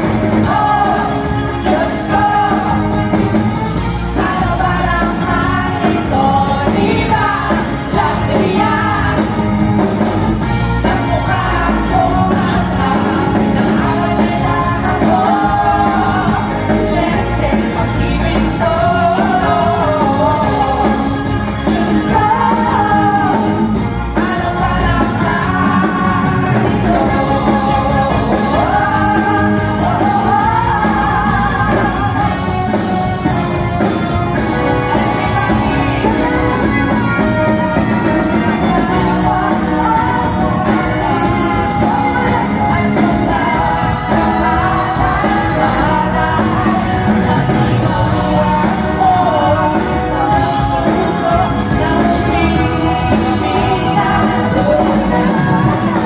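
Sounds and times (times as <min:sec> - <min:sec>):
person singing: 0:00.0 - 0:56.0
pop-rock band playing: 0:00.0 - 0:56.0.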